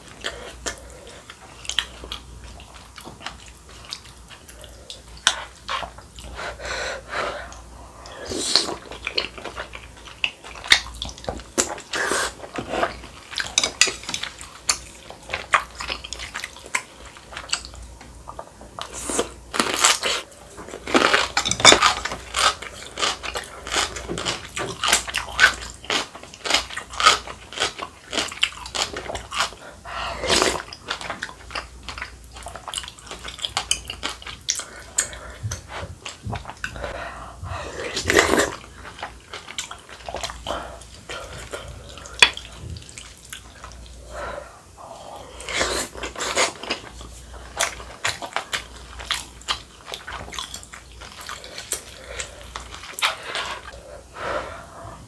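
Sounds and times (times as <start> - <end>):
wet chewing and sipping: 0.0 - 55.0.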